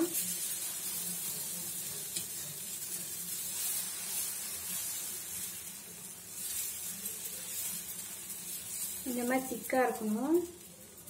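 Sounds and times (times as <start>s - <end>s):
batter sizzling on hot griddle: 0.0s - 11.0s.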